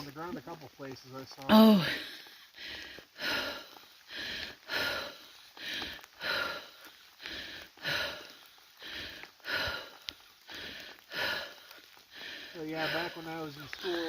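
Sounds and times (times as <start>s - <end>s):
person breathing heavily: 1.5s - 14.0s.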